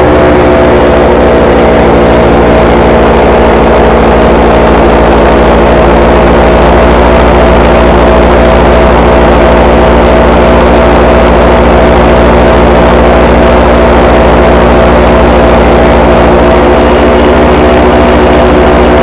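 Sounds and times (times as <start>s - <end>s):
paramotor engine and propeller: 0.0s - 19.0s.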